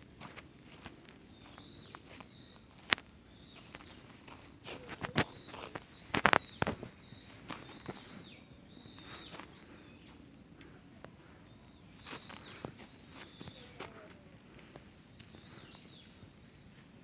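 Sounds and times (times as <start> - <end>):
footsteps crunching on trail: 0.0 - 17.0.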